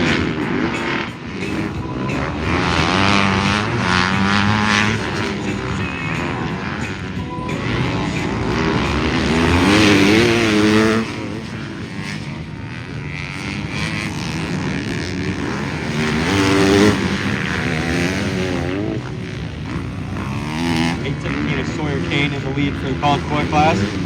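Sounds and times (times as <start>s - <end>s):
motocross bike engines revving: 0.0s - 24.0s.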